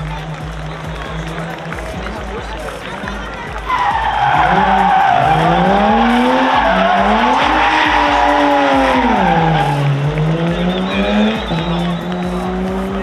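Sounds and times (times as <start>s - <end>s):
race car engine revving: 0.0s - 13.0s
tyres squealing: 0.7s - 12.3s.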